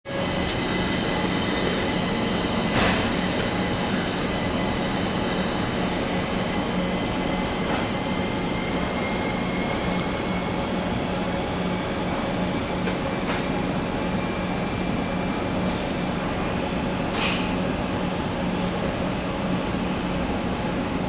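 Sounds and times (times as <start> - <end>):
train running hum with whine: 0.1 - 21.0.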